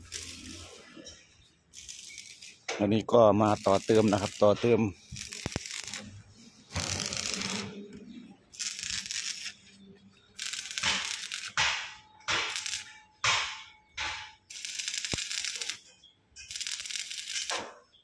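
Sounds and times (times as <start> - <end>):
welding arc crackling: 0.0 - 1.1, 1.7 - 7.8, 8.5 - 9.7, 10.3 - 17.7.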